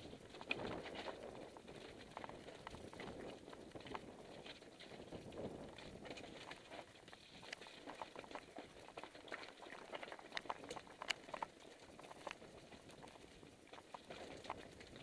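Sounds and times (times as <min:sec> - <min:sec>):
bicycle frame rattling: 0:00.0 - 0:15.0.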